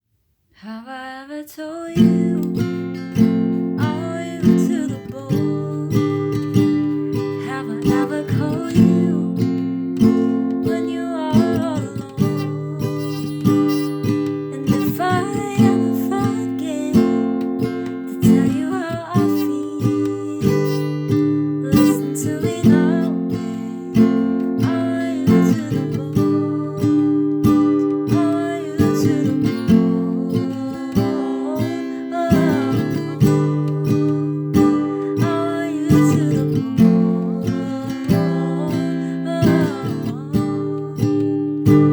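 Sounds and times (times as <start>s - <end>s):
person singing: 0.6s - 3.0s, 3.6s - 41.9s
acoustic guitar strumming: 2.0s - 41.9s.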